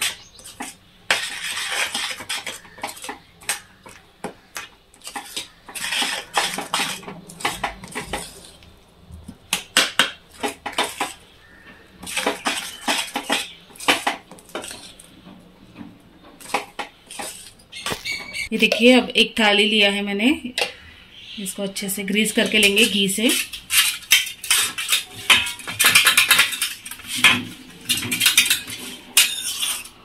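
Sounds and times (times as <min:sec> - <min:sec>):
metal spoon scraping a pan: 0:00.0 - 0:08.7, 0:09.5 - 0:15.4, 0:16.4 - 0:18.5, 0:22.1 - 0:30.0.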